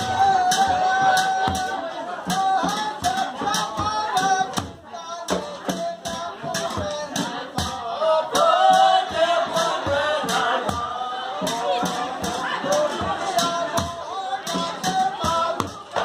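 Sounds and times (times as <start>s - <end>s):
dhol drum strokes: 0.0s - 16.0s
men singing together: 0.0s - 16.0s.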